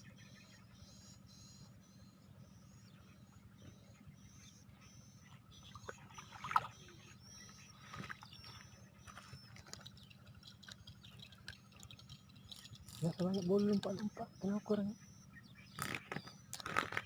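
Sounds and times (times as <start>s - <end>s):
birds chirping: 0.0s - 17.0s
low steady hum: 0.0s - 17.0s.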